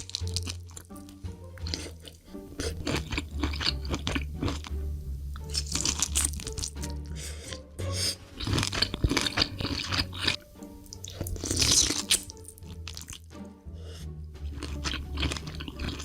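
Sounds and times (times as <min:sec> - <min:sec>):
chewing crisp food: 0:00.0 - 0:07.6, 0:08.4 - 0:13.3, 0:14.4 - 0:16.0
background music: 0:00.0 - 0:16.0.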